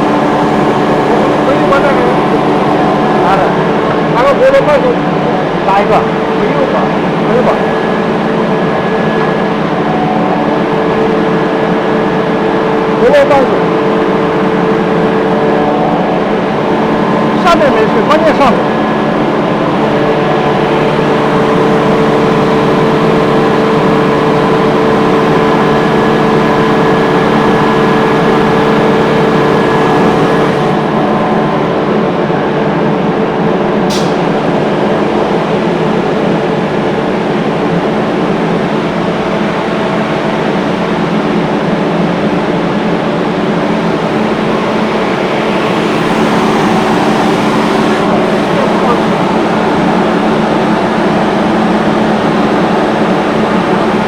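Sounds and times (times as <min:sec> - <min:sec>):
air compressor droning: 0:00.0 - 0:54.0.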